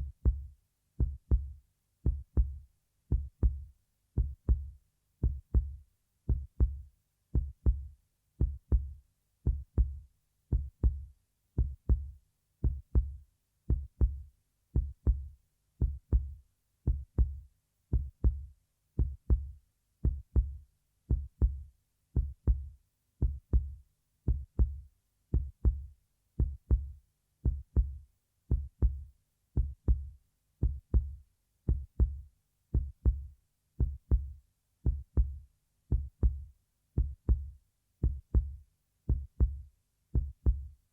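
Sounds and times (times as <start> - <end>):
heartbeat thumping: 0.0 - 39.6, 40.2 - 40.8.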